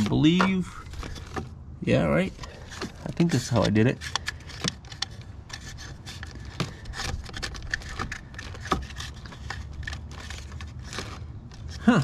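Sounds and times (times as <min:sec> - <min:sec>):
plastic clicks and rubbing: 0:02.3 - 0:12.0.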